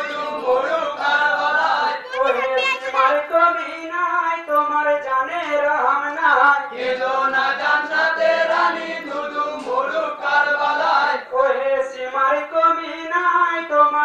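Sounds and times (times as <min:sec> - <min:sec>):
young men chanting a lament: 0:00.0 - 0:14.0.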